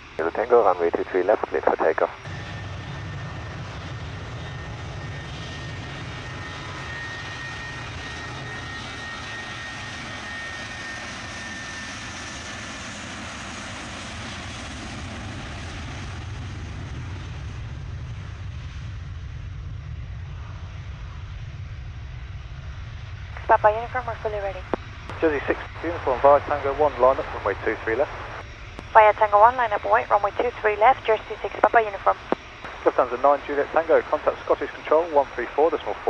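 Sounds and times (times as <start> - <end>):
high engine whine: 0.0 - 36.0
jet engines at takeoff: 0.0 - 36.0.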